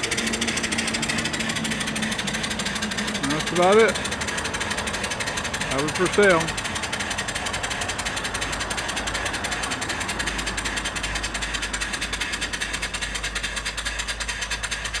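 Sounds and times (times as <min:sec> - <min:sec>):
steam engine exhaust chuffing: 0:00.0 - 0:15.0
steam hissing: 0:00.0 - 0:15.0.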